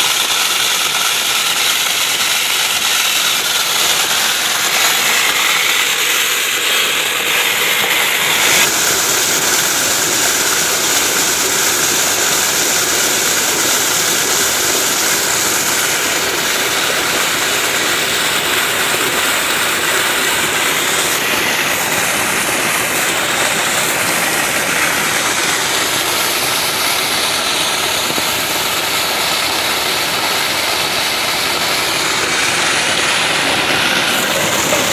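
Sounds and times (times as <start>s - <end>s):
water jet splashing into channel: 0.0s - 34.9s.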